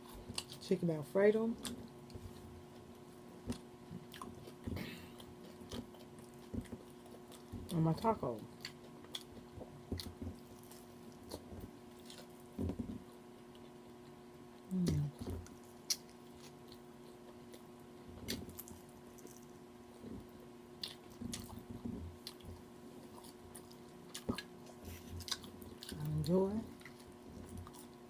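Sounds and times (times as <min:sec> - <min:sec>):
woman chewing food: 0:00.0 - 0:00.6, 0:01.6 - 0:28.0.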